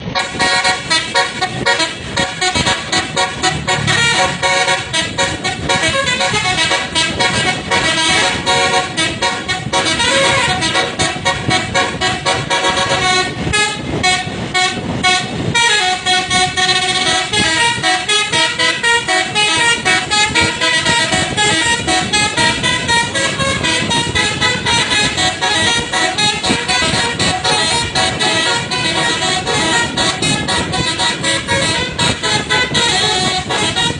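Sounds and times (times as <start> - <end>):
musical air horn playing a tune: 0.0 - 33.9.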